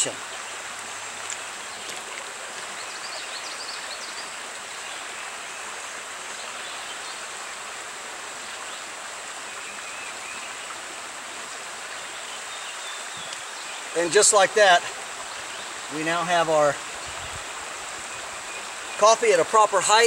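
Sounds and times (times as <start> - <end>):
creek water flowing over rocks: 0.0 - 20.0.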